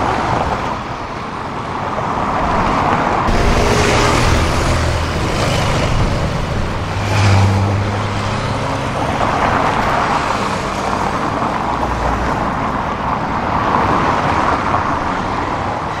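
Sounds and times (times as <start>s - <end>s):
cars and motorcycles passing: 0.0s - 16.0s.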